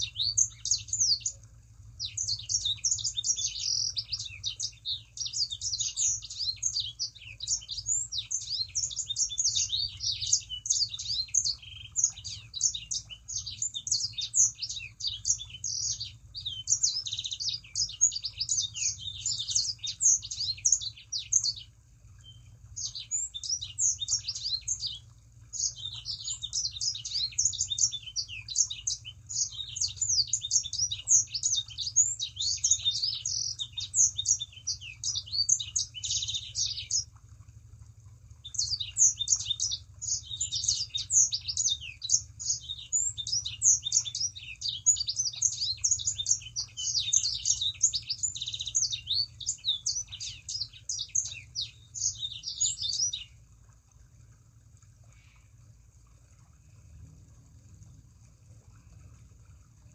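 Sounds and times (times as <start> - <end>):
faint steady hum: 0.0 - 59.9
songbird chirps and trills: 0.0 - 59.9.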